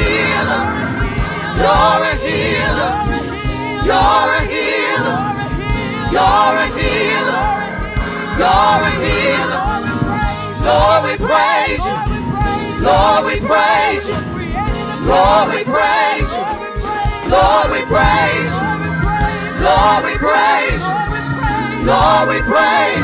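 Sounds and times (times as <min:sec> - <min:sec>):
choir singing worship song: 0:00.0 - 0:23.0
instrumental backing with beat: 0:00.0 - 0:23.0.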